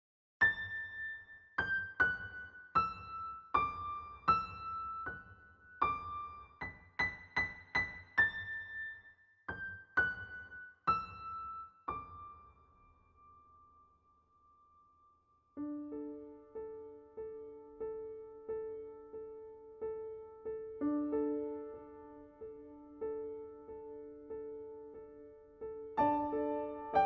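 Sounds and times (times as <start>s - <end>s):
slow piano melody: 0.4s - 27.0s.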